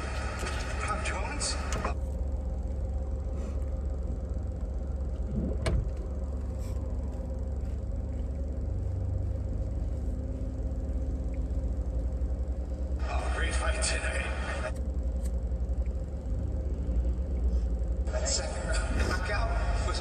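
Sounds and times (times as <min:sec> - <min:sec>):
car rumbling: 0:00.0 - 0:20.0.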